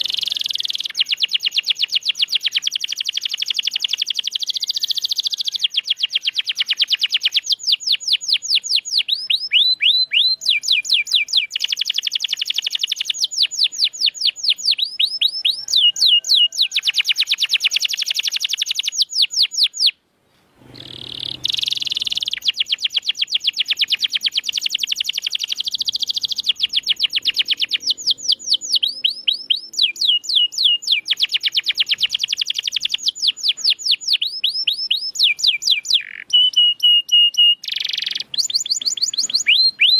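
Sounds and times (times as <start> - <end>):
canary singing in trills: 0.0 - 20.0, 20.6 - 39.9.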